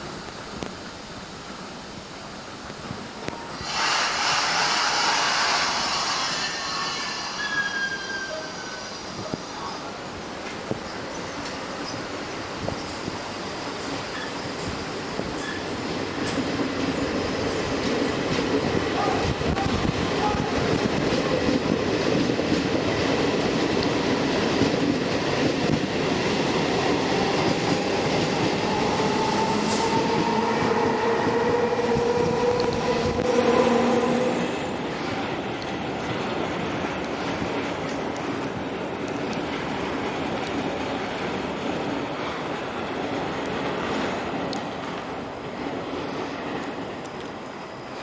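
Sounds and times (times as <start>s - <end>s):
train wheels clattering on rails: 2.7s - 48.0s.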